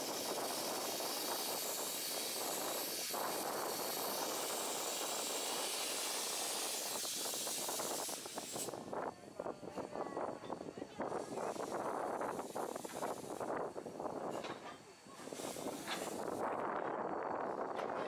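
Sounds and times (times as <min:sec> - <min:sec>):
steam locomotive hissing steam: 0:00.0 - 0:18.0.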